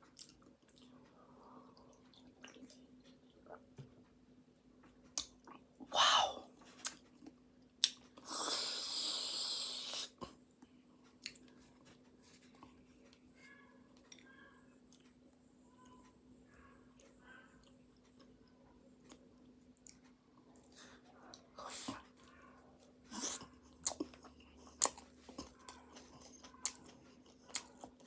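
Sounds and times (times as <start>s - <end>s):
chewing pastry: 0.0s - 4.1s, 6.5s - 28.0s
faint hum: 0.0s - 28.0s.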